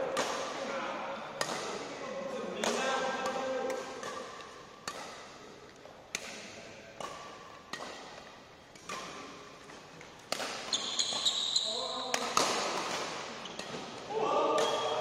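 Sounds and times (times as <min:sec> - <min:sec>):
rackets striking shuttlecock: 0:00.0 - 0:00.7, 0:01.3 - 0:02.0, 0:02.6 - 0:15.0.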